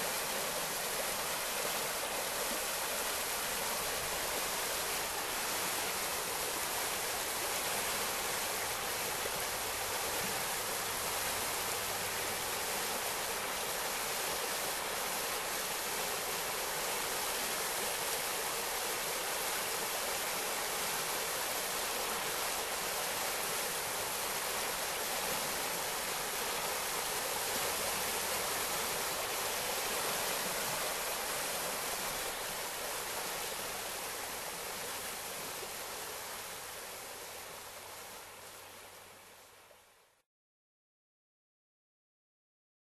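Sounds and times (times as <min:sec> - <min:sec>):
forest stream rushing and babbling: 0:00.0 - 0:40.2.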